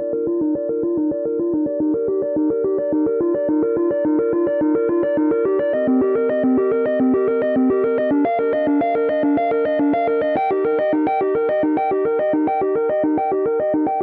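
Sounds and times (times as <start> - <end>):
synthesized ringtone melody: 0.1 - 14.0.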